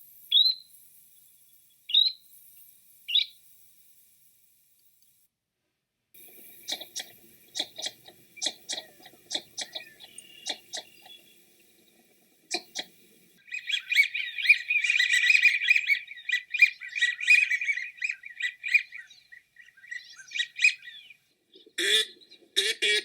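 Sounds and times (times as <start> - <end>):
birds chirping and twittering: 0.0 - 5.1, 6.2 - 22.6.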